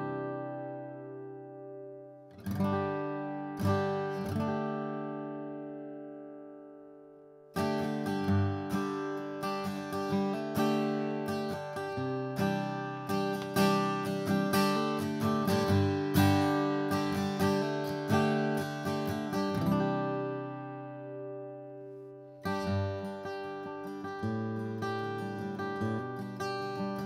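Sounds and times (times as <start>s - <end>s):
acoustic guitar strummed: 0.0s - 27.0s.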